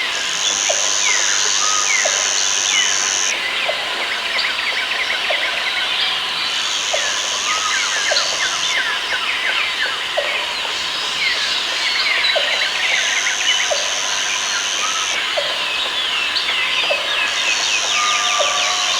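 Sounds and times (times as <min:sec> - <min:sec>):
high steady buzz: 0:00.0 - 0:03.8, 0:05.3 - 0:18.9
birds chirping: 0:00.2 - 0:18.9.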